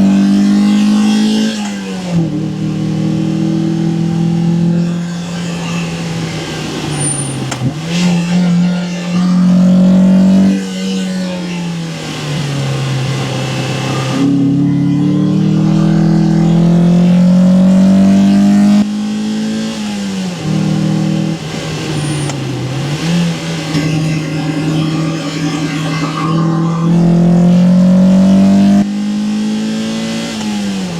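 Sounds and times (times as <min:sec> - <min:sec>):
car engine revving hard: 0:00.0 - 0:30.9.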